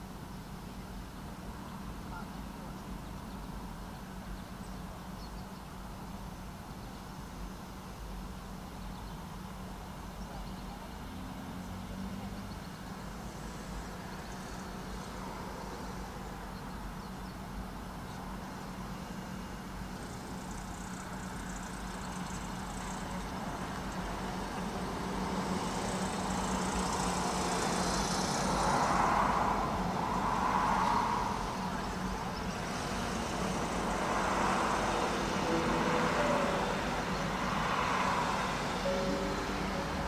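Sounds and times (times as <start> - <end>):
road vehicle noise: 0.0 - 40.0.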